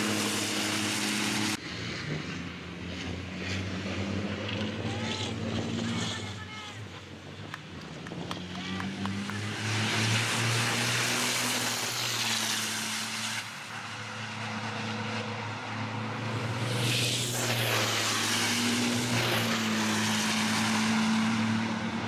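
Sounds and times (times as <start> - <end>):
truck diesel engines passing: 0.0 - 22.0.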